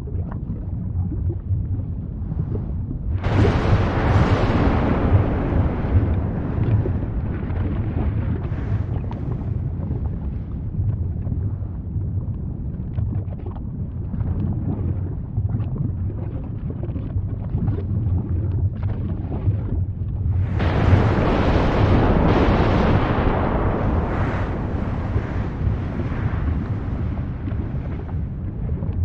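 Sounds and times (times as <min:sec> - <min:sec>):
volcano eruption rumbling: 0:00.0 - 0:13.3, 0:17.7 - 0:29.0.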